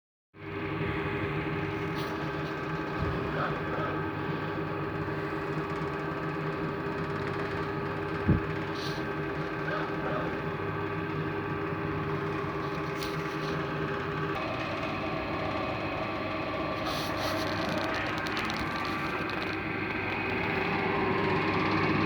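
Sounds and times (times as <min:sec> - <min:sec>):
feed mixer humming: 0:00.5 - 0:22.0.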